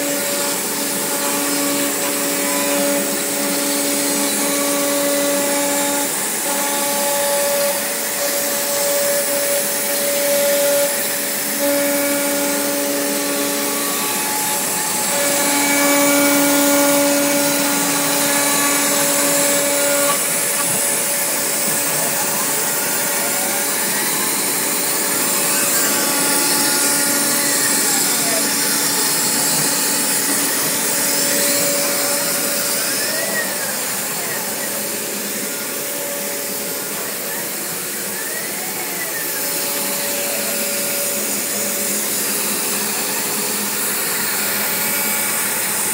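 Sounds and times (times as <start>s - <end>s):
router machine whine: 0.0s - 45.9s.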